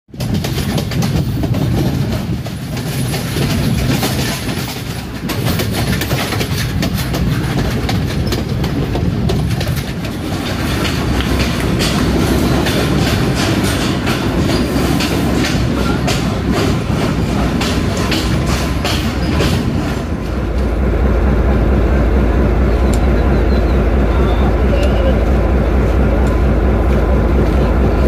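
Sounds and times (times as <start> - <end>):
train wheels clattering over rail joints: 0.1 - 23.3
low train rumble: 0.1 - 28.0.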